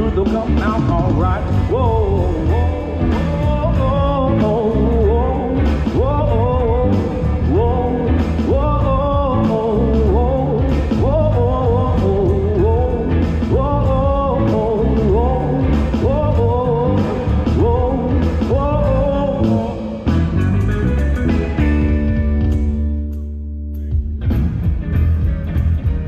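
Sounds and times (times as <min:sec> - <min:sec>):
live blues-rock band playing: 0:00.0 - 0:23.1, 0:24.0 - 0:26.0
sliding lead guitar melody: 0:00.0 - 0:26.0.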